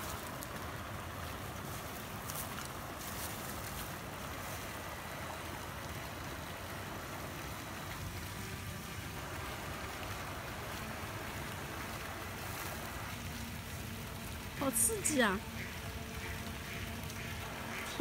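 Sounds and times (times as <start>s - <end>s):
fountain splashing into pond: 0.0s - 18.0s.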